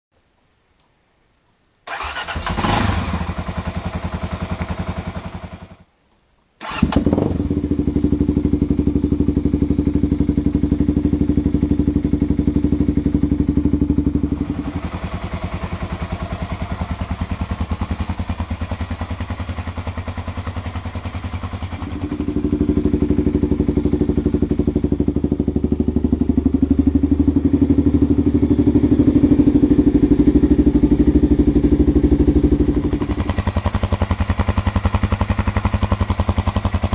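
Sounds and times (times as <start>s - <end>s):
motorcycle engine idling: 2.0s - 5.8s, 6.6s - 36.9s.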